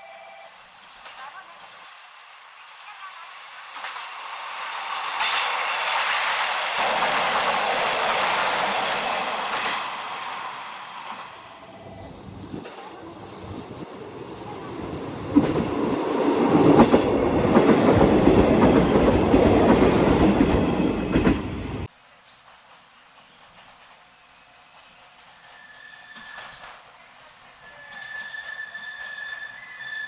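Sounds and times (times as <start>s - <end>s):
train wheels on rails: 0.0s - 30.0s.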